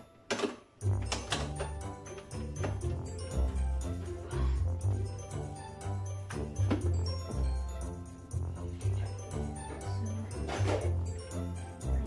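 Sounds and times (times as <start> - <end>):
background music with bass line: 0.8 - 12.0.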